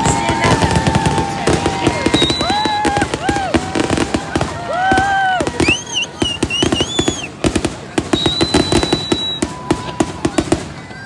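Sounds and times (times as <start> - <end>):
fireworks bangs and crackles: 0.0 - 11.0
high whistling fireworks: 0.0 - 11.0.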